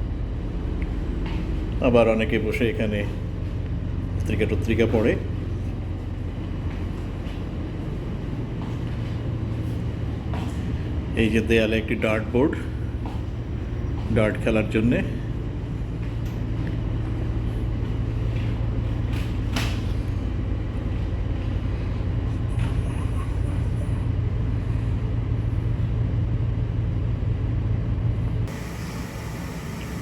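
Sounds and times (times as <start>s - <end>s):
ship machinery hum: 0.0s - 30.0s.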